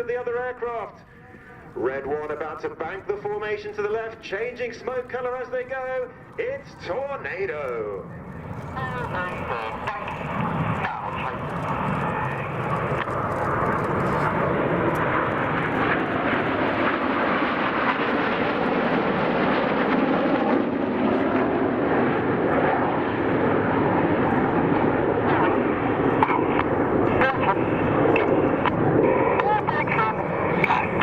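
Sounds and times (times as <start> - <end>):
jet aircraft noise: 0.0 - 31.0.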